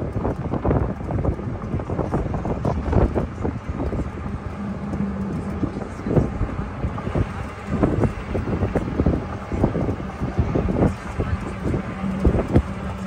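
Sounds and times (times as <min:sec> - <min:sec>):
low hum: 0:00.0 - 0:13.0
wind buffeting microphone: 0:00.0 - 0:13.0.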